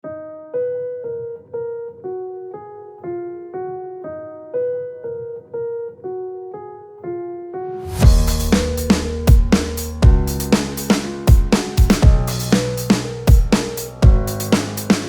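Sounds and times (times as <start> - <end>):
slow keyboard melody: 0.1 - 15.0.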